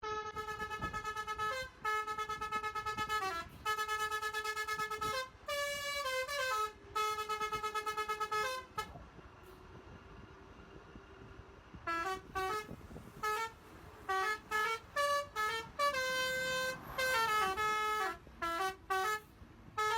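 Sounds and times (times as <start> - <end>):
multi-tone bus horn melody: 0.0 - 9.6, 11.7 - 19.9.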